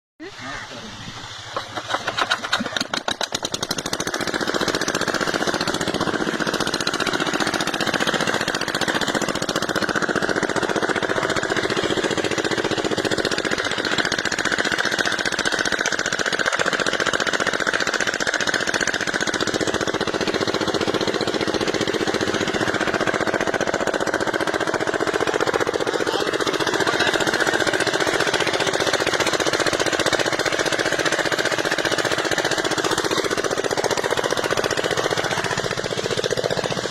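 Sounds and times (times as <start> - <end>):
diesel engine rattling: 0.3 - 36.9.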